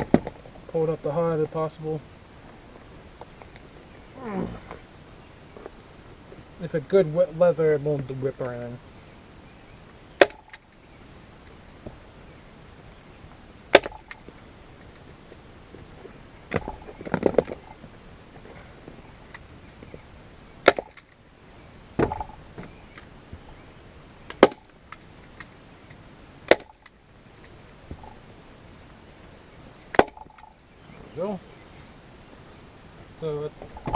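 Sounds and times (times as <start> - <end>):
insect chirping: 0.0 - 33.9.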